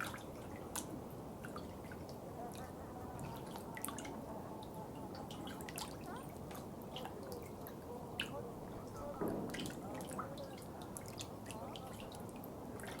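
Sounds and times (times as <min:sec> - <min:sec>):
water drips: 0:00.0 - 0:13.0
water gurgle: 0:00.0 - 0:13.0
water trickling: 0:00.0 - 0:13.0.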